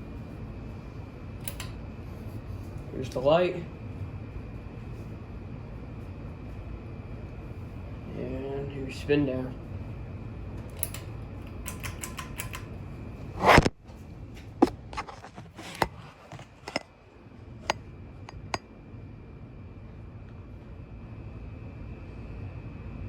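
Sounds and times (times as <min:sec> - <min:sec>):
ceiling fan whirring: 0:00.0 - 0:23.0.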